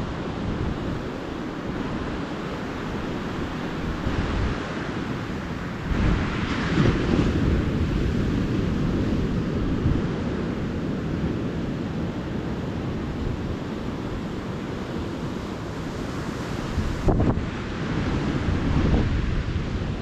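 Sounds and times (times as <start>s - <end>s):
small waves washing onto beach: 0.0s - 20.0s
wind rumble on microphone: 0.0s - 20.0s.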